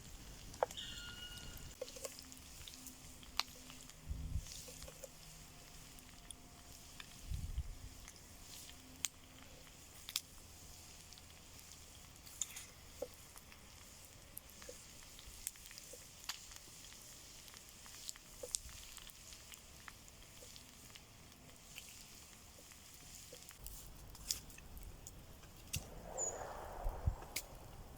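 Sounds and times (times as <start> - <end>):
campfire crackling: 0.0 - 27.9
fire pops and snaps: 0.0 - 27.9
low steady hiss: 0.0 - 27.9.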